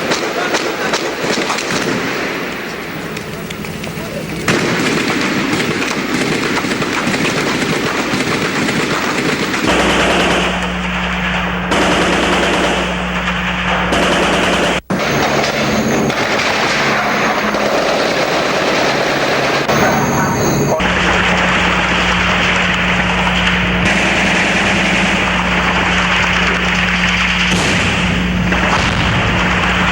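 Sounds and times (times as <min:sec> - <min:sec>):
automatic machine-gun fire: 0:00.0 - 0:29.9
steady low hum: 0:00.0 - 0:29.9.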